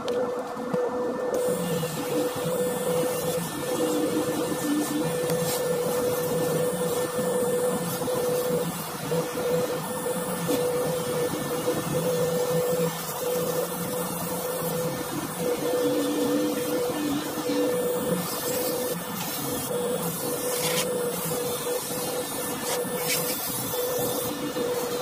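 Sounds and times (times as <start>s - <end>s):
rotary polishing tool humming: 0.0s - 25.0s.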